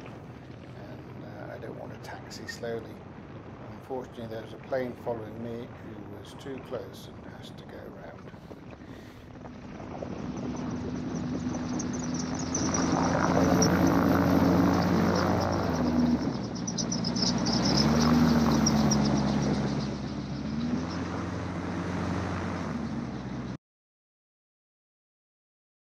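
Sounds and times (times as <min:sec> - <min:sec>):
gyroplane engine and propeller: 0:00.0 - 0:23.6.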